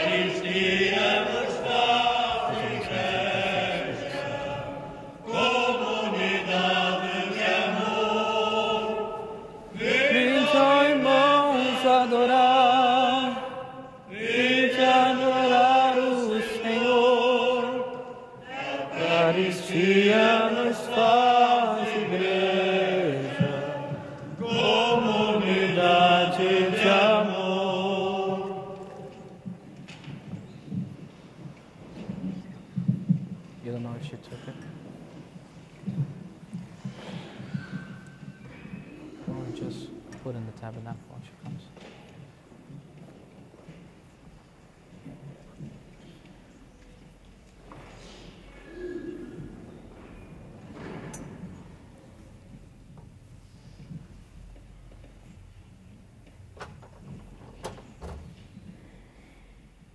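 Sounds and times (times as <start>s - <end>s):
voices singing a slow hymn: 0.0s - 33.3s, 34.3s - 40.4s, 41.8s - 59.9s.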